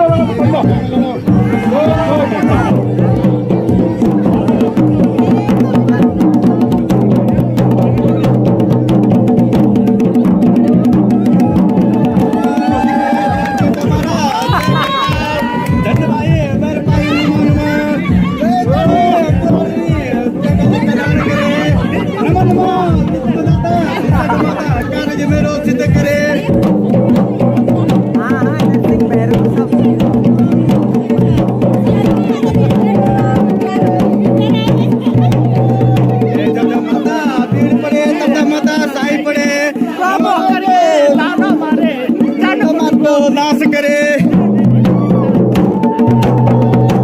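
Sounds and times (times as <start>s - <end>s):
drums beating rapidly: 0.0s - 47.0s.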